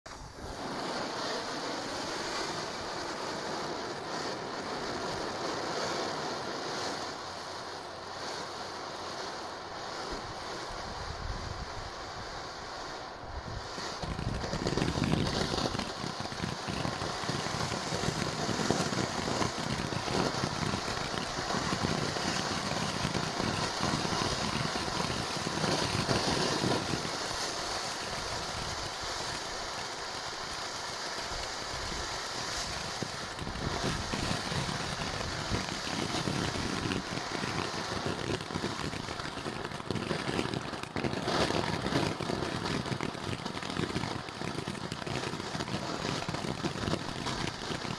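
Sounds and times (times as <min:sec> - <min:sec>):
firework fountain hissing and crackling: 0:00.1 - 0:47.9.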